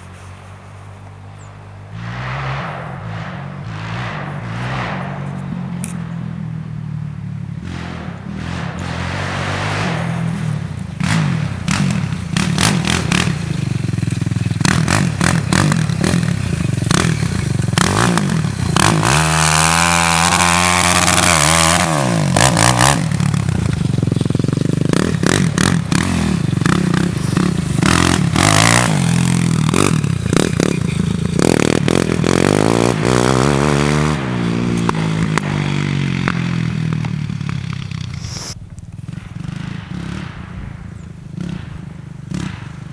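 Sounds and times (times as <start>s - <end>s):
engine revving: 0.0s - 42.9s.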